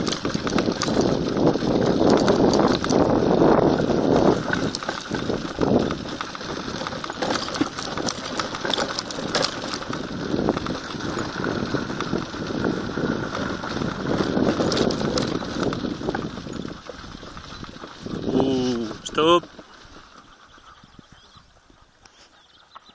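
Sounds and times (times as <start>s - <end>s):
rig crunching and rattling on gravel: 0.0s - 22.9s.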